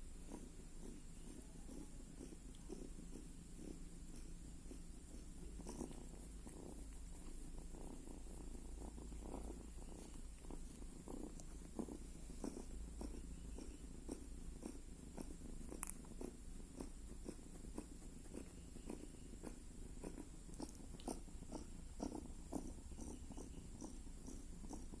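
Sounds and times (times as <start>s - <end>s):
cat snoring: 0.0s - 25.0s.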